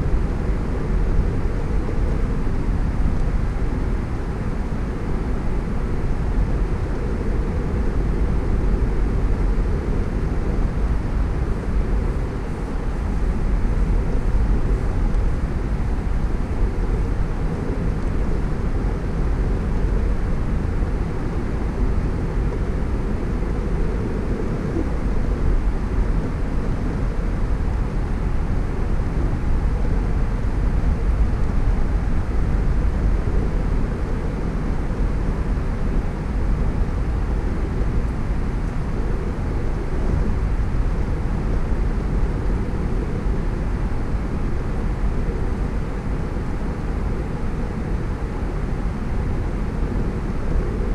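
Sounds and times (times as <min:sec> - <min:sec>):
road and tyre noise: 0:00.0 - 0:50.9
wind: 0:00.0 - 0:50.9.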